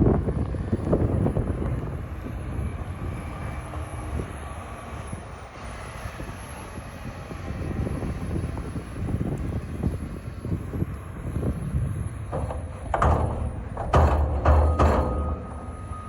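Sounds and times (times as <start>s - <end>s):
diesel engines rumbling: 0.0s - 16.0s.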